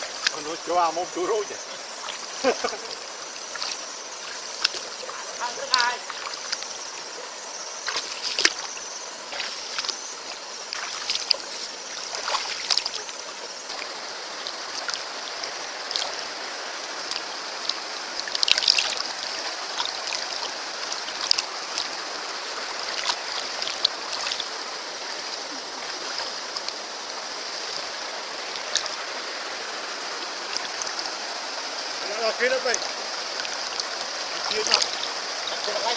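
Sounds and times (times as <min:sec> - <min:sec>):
stream water running: 0:00.0 - 0:35.9
water splashes: 0:00.0 - 0:35.9.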